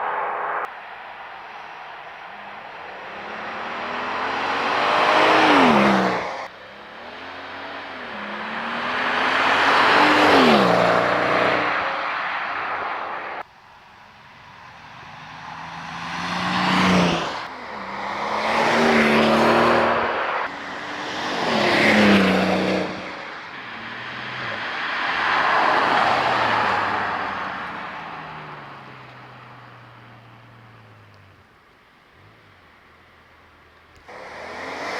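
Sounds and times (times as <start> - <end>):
car engine driving past: 0.0 - 13.4, 14.4 - 31.1.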